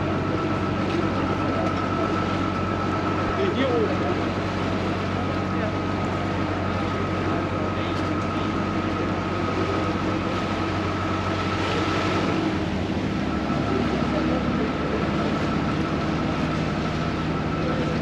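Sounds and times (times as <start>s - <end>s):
boat engine running: 0.0s - 18.0s
water rushing past hull: 0.0s - 18.0s.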